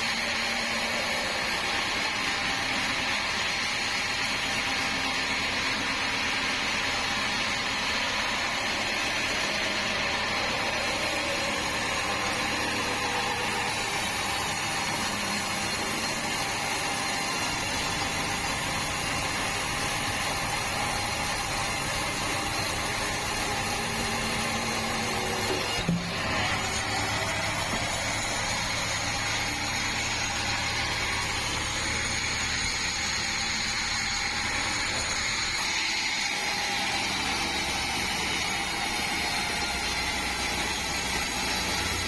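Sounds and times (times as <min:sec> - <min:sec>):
band sawmill running: 0:00.0 - 0:42.0.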